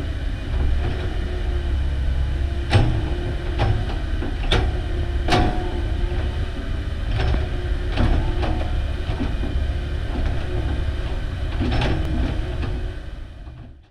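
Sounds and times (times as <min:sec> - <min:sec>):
excavator diesel engine running: 0:00.0 - 0:13.8.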